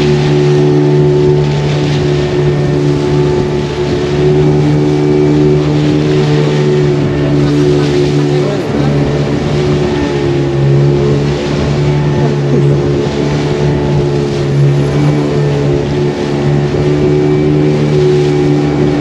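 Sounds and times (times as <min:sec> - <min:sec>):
boat motor droning: 0:00.0 - 0:19.0
water rushing along hull: 0:00.0 - 0:19.0.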